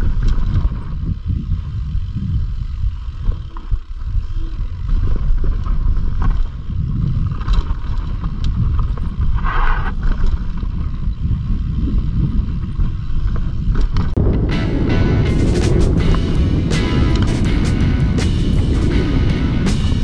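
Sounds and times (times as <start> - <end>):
bike rattling over ground: 0.0 - 20.0
wind buffeting microphone: 0.0 - 20.0.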